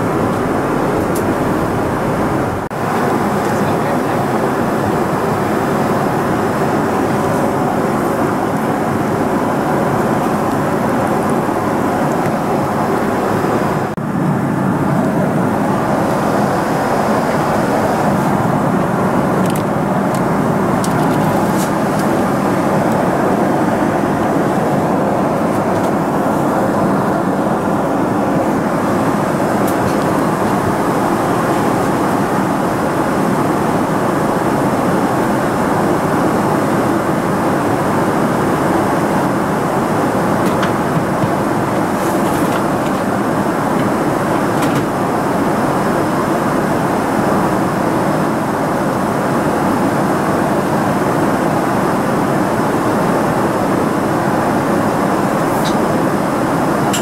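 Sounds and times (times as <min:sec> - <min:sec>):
airplane cabin noise: 0:00.0 - 0:57.0.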